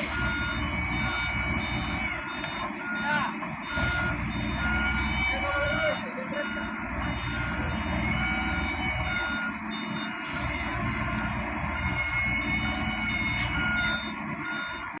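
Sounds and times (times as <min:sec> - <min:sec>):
diesel machinery rumbling: 0:00.0 - 0:15.0
reversing alarm beeping: 0:00.0 - 0:15.0.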